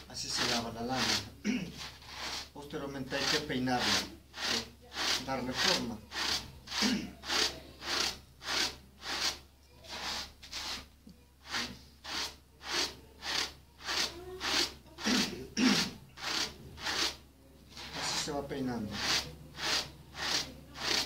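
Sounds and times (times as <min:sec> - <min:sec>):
wool carding rasping strokes: 0:00.0 - 0:21.0.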